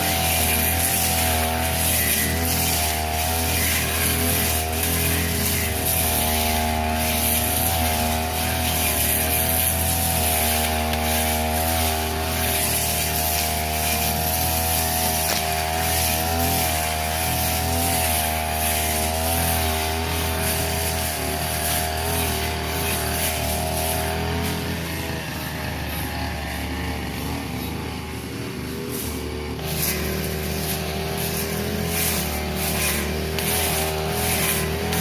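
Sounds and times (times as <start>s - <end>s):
brush cutter engine cutting grass: 0.0s - 35.0s.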